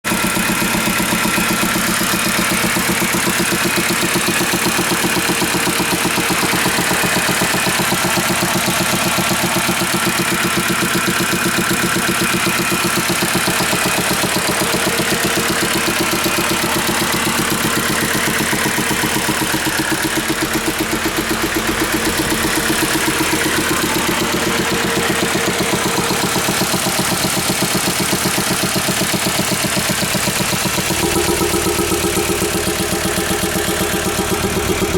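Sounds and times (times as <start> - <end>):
diesel engine idling with knock: 0.0 - 34.9.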